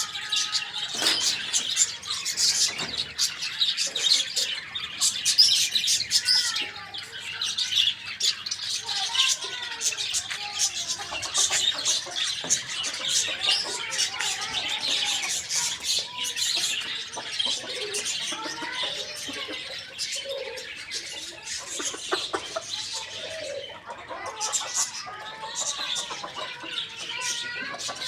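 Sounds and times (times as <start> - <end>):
chickens clucking: 0.0 - 28.0
small birds chirping: 0.0 - 28.0.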